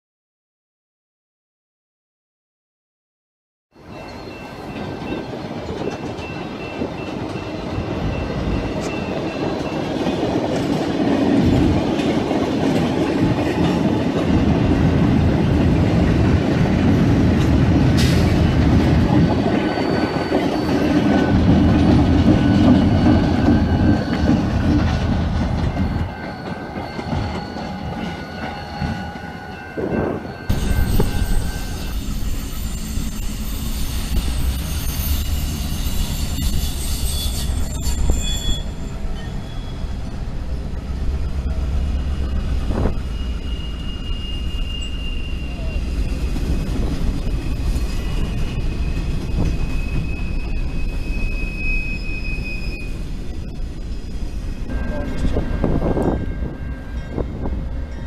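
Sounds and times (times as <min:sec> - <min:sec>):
diesel locomotive passing: 0:03.8 - 0:58.0
freight train rolling past: 0:03.8 - 0:58.0
low steady train rumble: 0:03.8 - 0:58.0.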